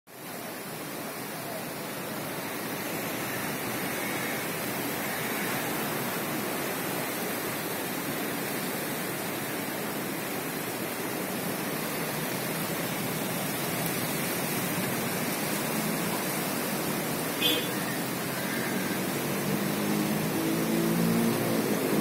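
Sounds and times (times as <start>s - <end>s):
flooded river rushing: 0.1s - 22.0s.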